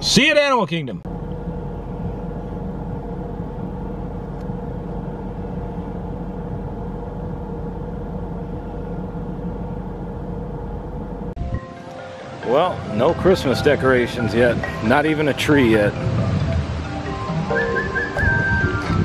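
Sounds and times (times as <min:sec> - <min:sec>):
faint constant hum: 0:00.1 - 0:17.7
vehicle engine and road noise: 0:01.0 - 0:19.0.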